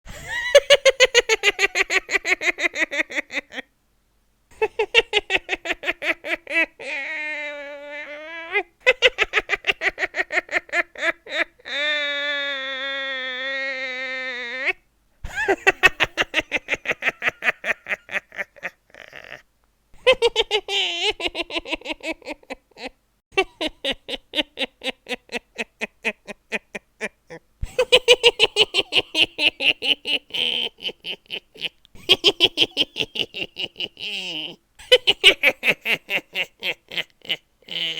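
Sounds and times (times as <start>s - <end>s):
high-pitched witch cackle: 0.1s - 3.7s, 4.5s - 19.4s, 20.0s - 37.9s
person laughing evilly: 0.1s - 3.7s, 4.5s - 37.9s.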